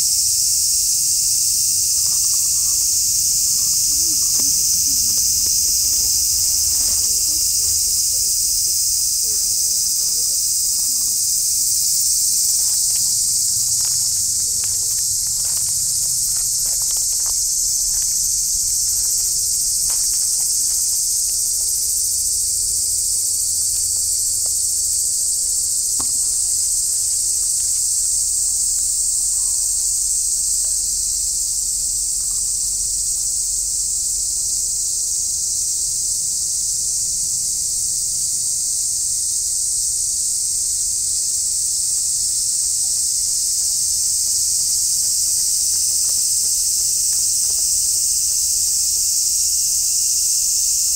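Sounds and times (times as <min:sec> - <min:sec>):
faint rustles of leaves: 0:00.0 - 0:36.8, 0:39.3 - 0:50.9
cicadas shrilling: 0:00.0 - 0:50.9.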